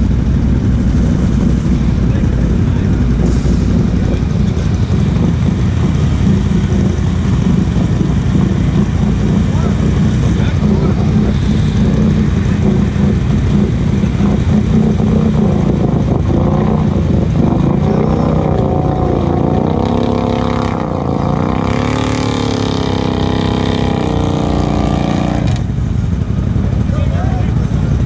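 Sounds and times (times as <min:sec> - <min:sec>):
engine revving up and down: 0:00.0 - 0:25.8
atv engine running: 0:00.0 - 0:28.0.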